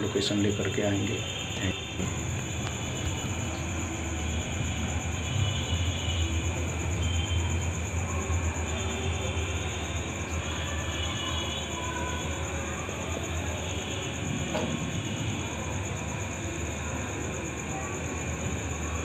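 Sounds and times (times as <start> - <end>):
constant hiss: 0.0 - 18.2.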